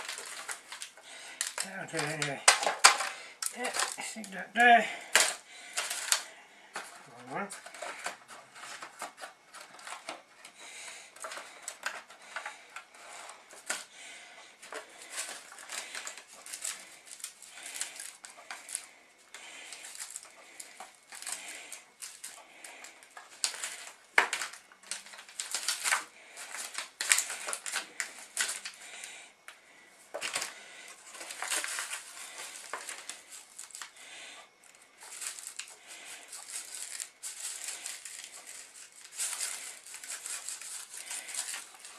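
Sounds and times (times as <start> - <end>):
aluminium foil trays crinkling: 0.0 - 41.9.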